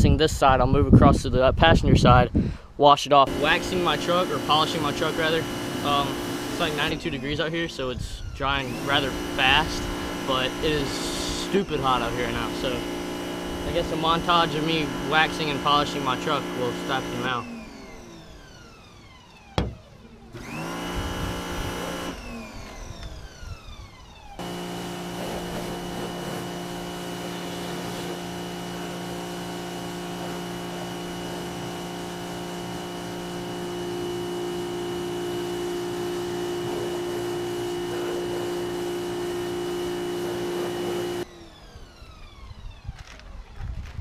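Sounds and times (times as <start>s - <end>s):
electric car polisher whining: 3.3s - 7.6s, 8.4s - 43.2s.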